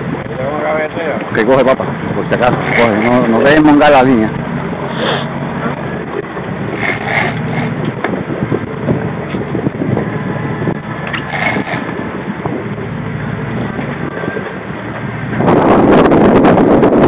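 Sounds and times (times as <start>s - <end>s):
boat engine running: 0.0s - 17.0s
water noise: 0.0s - 17.0s
wind: 0.0s - 17.0s.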